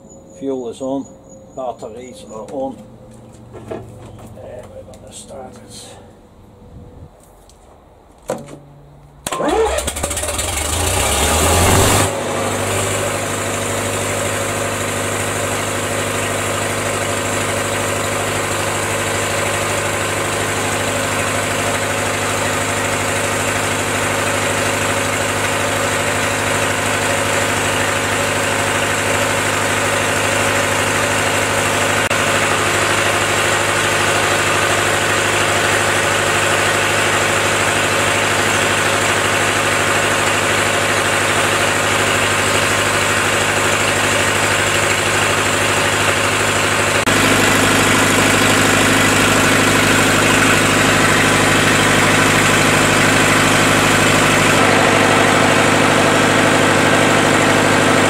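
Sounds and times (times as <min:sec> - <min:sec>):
diesel generator engine running: 0:00.0 - 0:07.2, 0:08.7 - 0:58.0.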